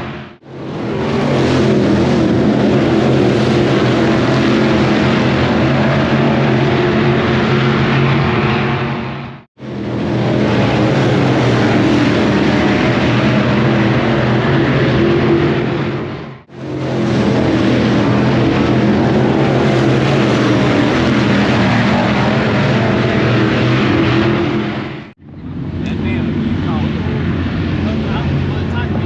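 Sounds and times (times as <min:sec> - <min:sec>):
race car engines running: 0:00.0 - 0:29.0.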